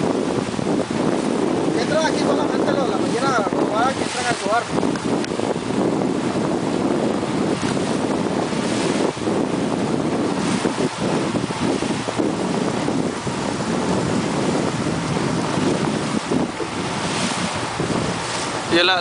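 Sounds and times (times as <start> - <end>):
choppy sea water rushing: 0.0 - 19.0
wind buffeting microphone: 0.0 - 19.0.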